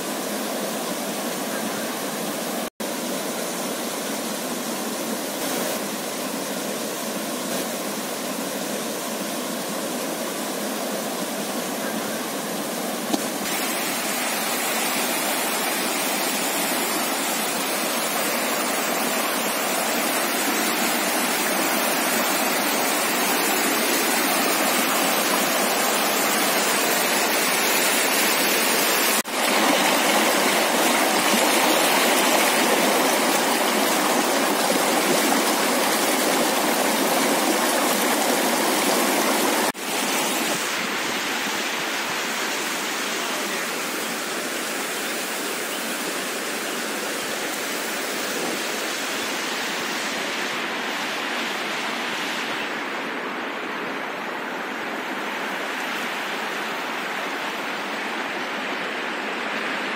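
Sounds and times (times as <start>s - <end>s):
river rushing over stones: 0.0s - 59.9s.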